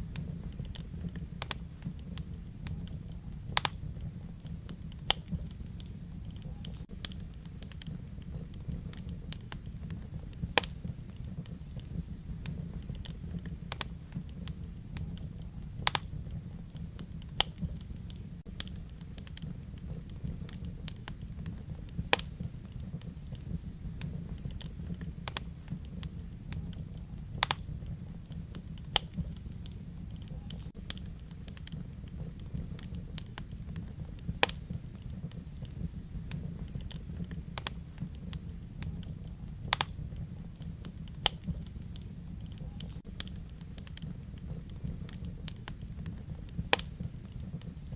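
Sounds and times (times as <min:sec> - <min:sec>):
low rumble of burning: 0:00.0 - 0:47.9
wood fire crackling and popping: 0:00.0 - 0:47.9.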